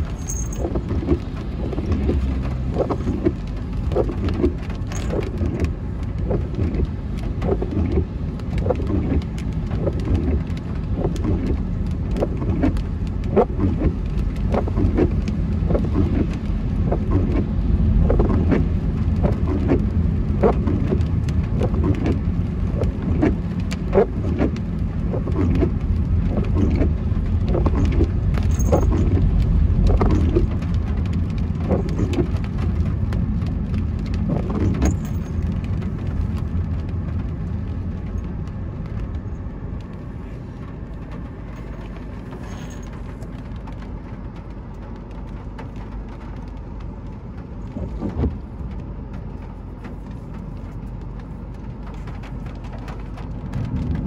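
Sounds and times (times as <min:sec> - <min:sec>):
car engine and road rumble: 0:00.0 - 0:54.0
rain tapping on car: 0:00.0 - 0:54.0.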